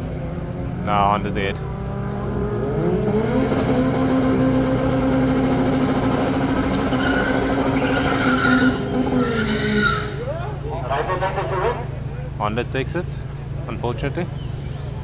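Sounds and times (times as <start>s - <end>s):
car engine at full throttle: 0.0s - 13.6s.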